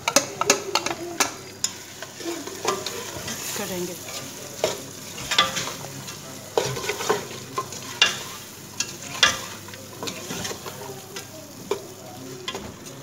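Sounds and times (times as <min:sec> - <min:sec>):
spatula scraping and knocking pot: 0:00.0 - 0:10.9
carrots sizzling in oil: 0:00.0 - 0:13.0.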